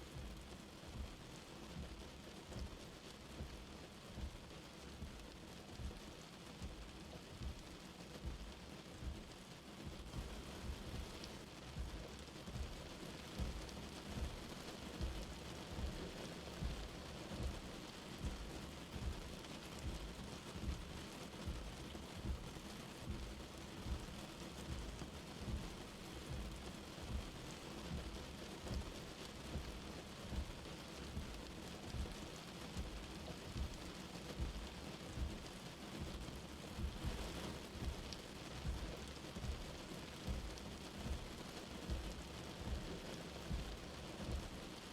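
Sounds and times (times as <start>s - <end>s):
light rain falling: 0.0s - 44.9s.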